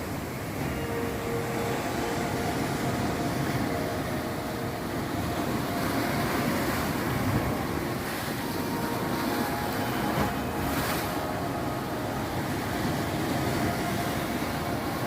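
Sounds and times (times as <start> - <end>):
faint steady hum: 0.0 - 15.0
sea waves washing over rocks: 0.0 - 15.0.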